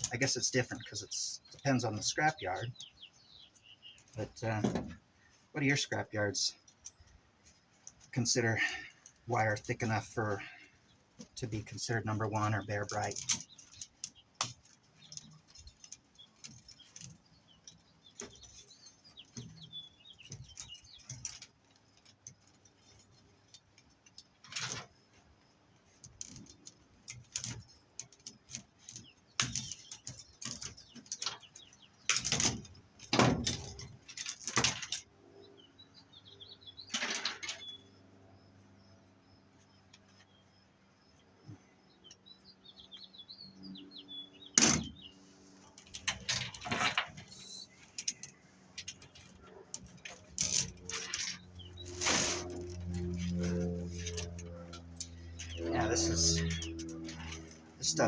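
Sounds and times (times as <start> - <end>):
metal cable rustling and clanking: 0.0 - 35.2, 36.6 - 37.8, 44.6 - 58.0
small birds chirping: 0.0 - 58.0.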